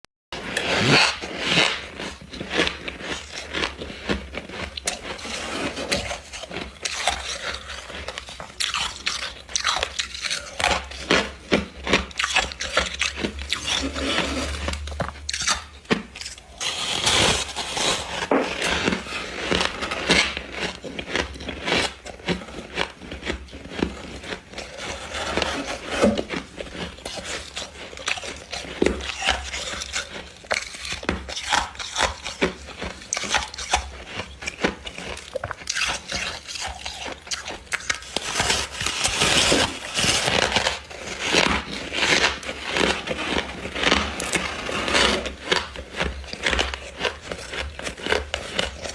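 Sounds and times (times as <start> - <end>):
frost being chewed: 0.4 - 48.9.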